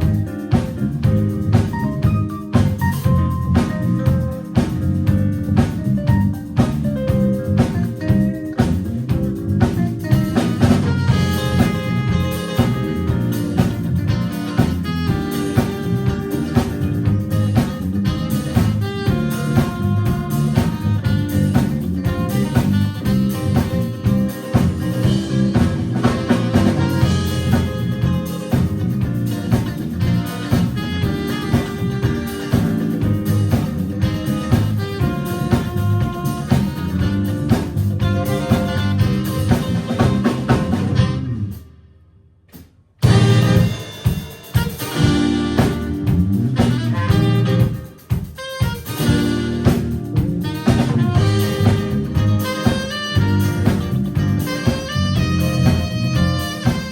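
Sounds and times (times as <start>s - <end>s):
drums keeping steady beat: 0.0s - 41.7s, 42.5s - 56.9s
small jazz group playing: 0.0s - 41.9s, 42.5s - 56.9s.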